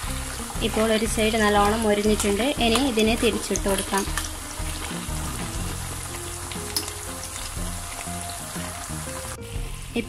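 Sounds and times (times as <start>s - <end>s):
chicken sizzling in hot oil: 0.0s - 10.0s
soft slow background music: 0.0s - 10.0s.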